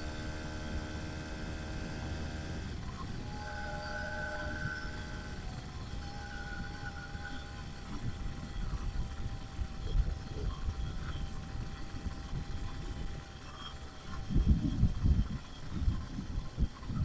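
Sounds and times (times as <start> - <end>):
small engine running: 0.0 - 17.0
wind rumbling on microphone: 0.0 - 17.0.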